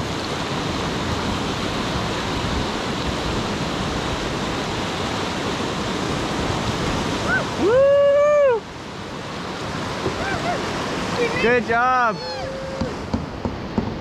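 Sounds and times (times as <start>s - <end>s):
whitewater rapids rushing over rocks: 0.0s - 14.0s.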